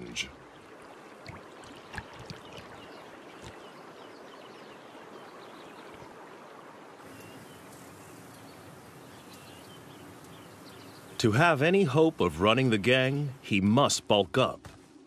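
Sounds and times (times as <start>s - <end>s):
river water washing: 0.0s - 14.5s.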